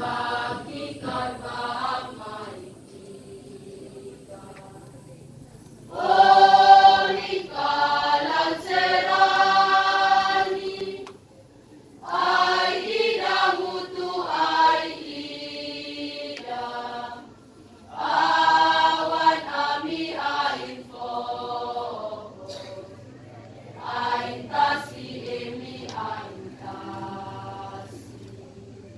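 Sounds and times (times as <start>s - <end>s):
choir singing: 0.0s - 5.3s, 5.9s - 11.2s, 12.0s - 28.4s.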